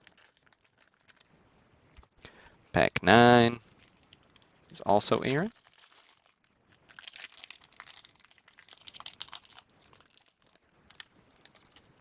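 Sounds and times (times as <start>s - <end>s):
card pack wrapper crinkling: 0.0s - 1.3s, 3.6s - 12.0s
clicks and rustles: 0.0s - 1.3s, 3.6s - 12.0s.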